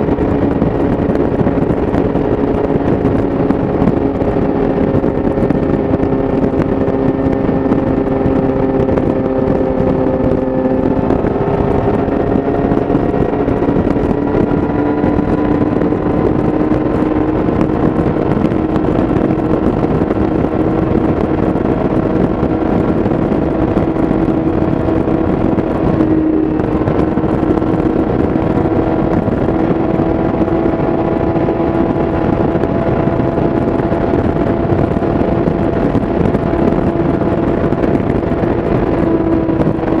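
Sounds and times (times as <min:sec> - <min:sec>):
motorcycle engine at speed: 0:00.0 - 0:40.0
wind rushing: 0:00.0 - 0:40.0.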